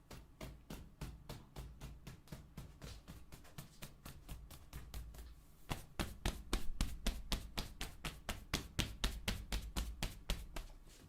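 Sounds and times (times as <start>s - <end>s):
hands tapping on chest: 0.0s - 10.8s.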